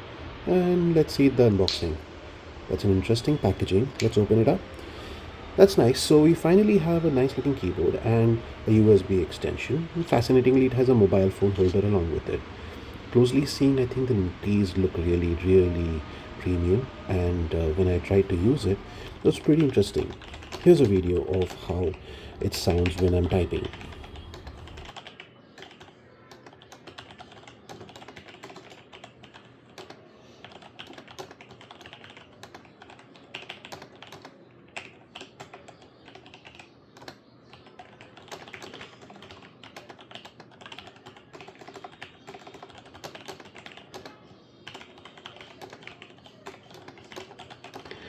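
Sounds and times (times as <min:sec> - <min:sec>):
fast typing on mechanical keyboard: 0:02.7 - 0:48.0.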